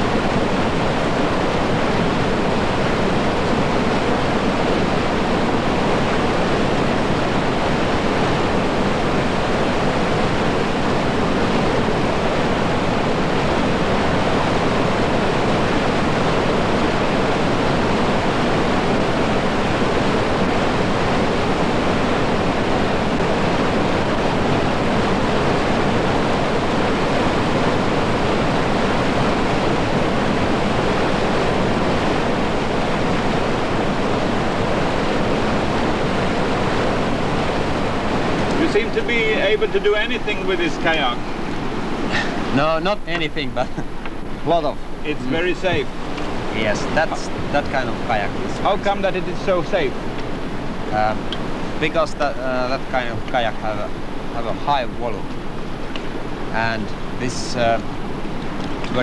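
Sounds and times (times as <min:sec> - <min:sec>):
river rapids rushing: 0:00.0 - 0:59.0.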